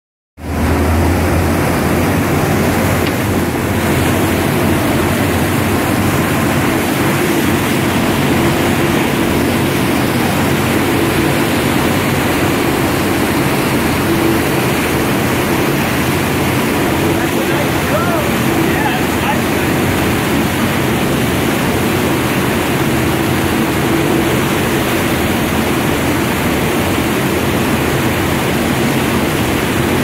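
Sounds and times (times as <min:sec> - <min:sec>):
boat engine droning: 0:00.4 - 0:30.0
water churning in boat wake: 0:00.4 - 0:30.0.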